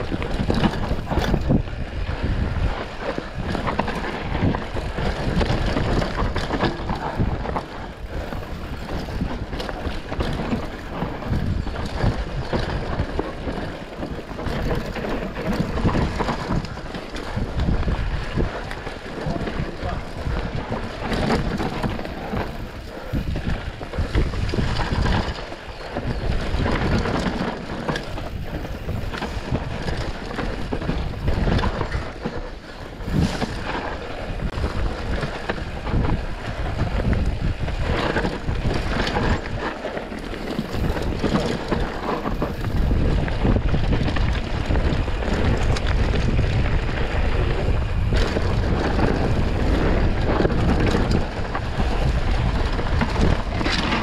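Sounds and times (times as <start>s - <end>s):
bike tyres and frame rattling: 0.0s - 54.0s
wind buffeting microphone: 0.0s - 54.0s.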